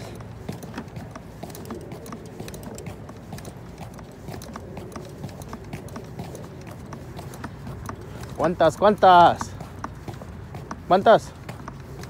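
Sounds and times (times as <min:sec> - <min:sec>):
fishing tackle clicking and knocking: 0:00.0 - 0:12.0
footsteps on paved path: 0:00.0 - 0:12.0.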